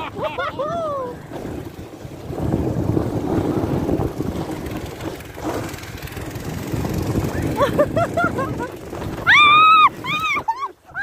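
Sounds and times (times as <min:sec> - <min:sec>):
sled scraping over snow: 0:00.0 - 0:11.0
wind buffeting microphone: 0:00.0 - 0:11.0.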